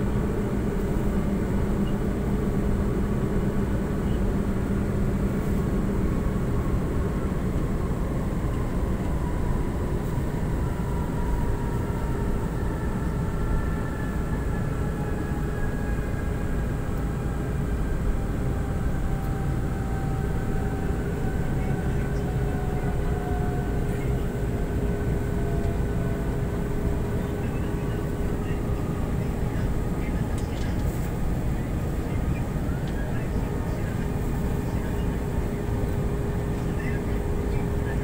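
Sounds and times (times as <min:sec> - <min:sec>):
light-rail train rumbling: 0:00.0 - 0:38.0.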